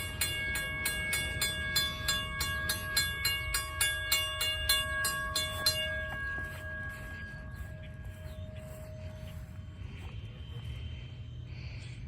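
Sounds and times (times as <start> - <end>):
railroad crossing bell ringing: 0.0 - 11.5.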